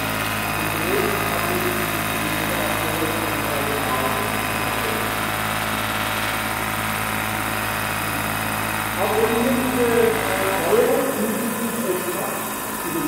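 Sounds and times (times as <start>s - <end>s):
model helicopter rotors humming: 0.0s - 13.0s.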